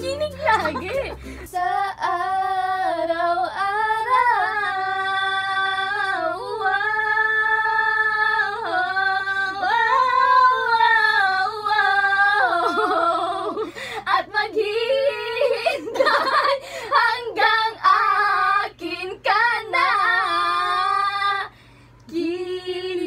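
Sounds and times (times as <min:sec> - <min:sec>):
two women singing unaccompanied: 0:00.0 - 0:23.0.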